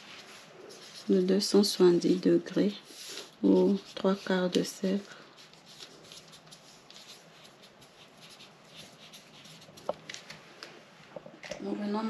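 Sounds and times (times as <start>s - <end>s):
paper rustling and scratching: 0.0s - 10.4s.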